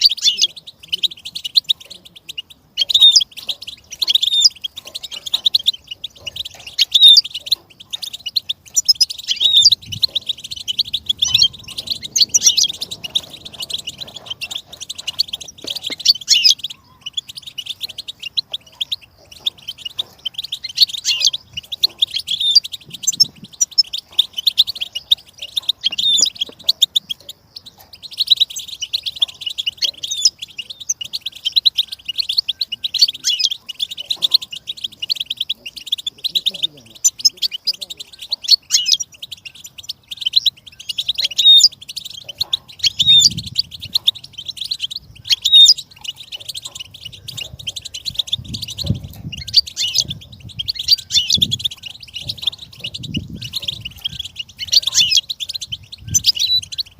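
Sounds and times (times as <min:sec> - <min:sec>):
finch twittering and trilling: 0:00.0 - 0:56.9.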